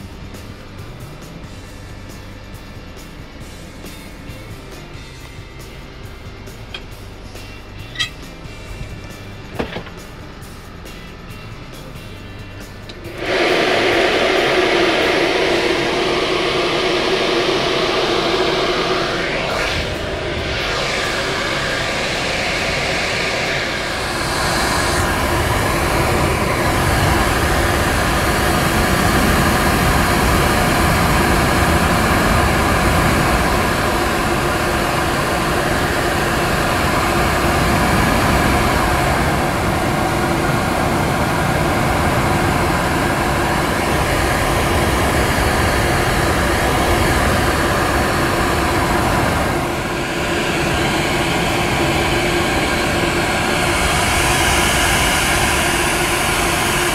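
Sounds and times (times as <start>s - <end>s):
dryer blowing air: 0.0s - 11.4s, 12.1s - 56.9s
motor whine: 0.0s - 56.9s.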